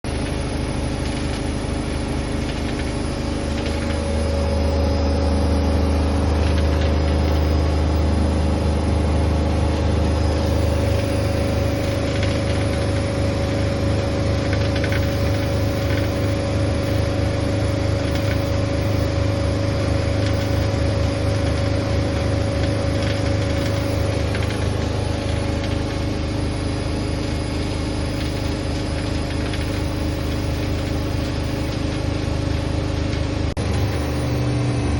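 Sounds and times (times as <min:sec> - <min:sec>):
motor whine: 0:00.0 - 0:34.9
washing machine spinning: 0:00.0 - 0:34.9.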